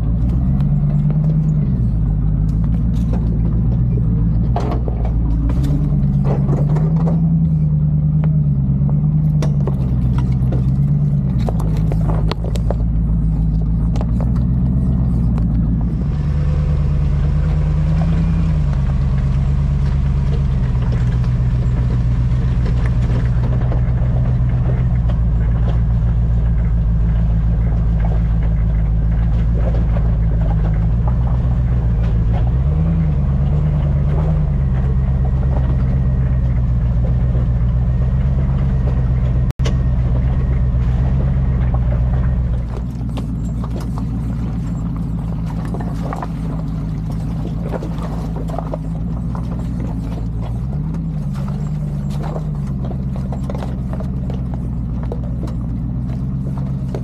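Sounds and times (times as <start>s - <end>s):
engine running at low speed: 0.0s - 57.0s
rocks and branches knocking: 0.0s - 57.0s.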